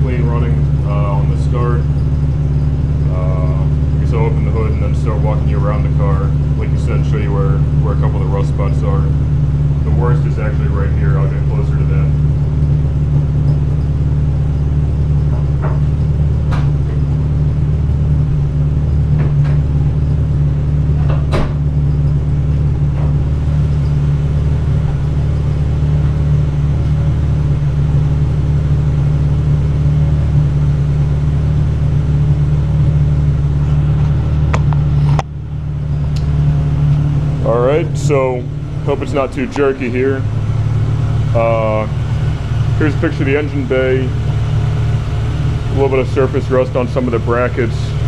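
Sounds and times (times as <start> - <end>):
air pump running: 0.0 - 48.0
rotary engine idling: 0.0 - 48.0.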